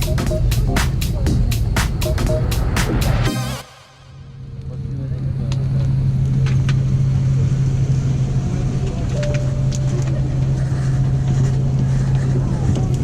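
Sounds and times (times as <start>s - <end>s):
aircraft cabin drone: 0.0s - 13.0s.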